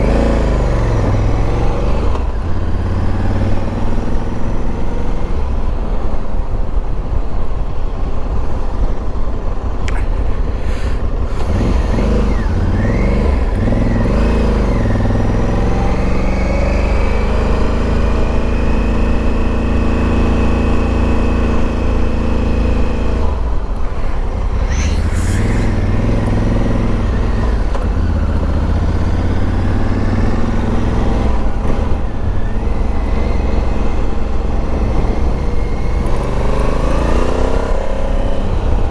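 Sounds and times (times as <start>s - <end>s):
motorcycle engine: 0.0s - 7.4s, 8.2s - 38.9s.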